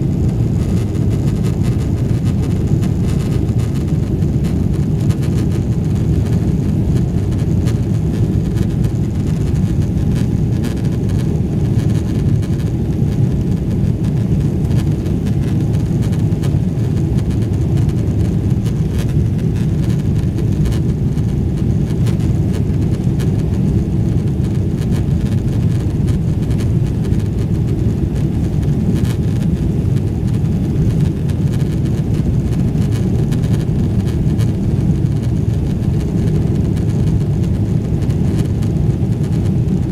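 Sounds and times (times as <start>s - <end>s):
jet engine cabin noise: 0.0s - 39.9s.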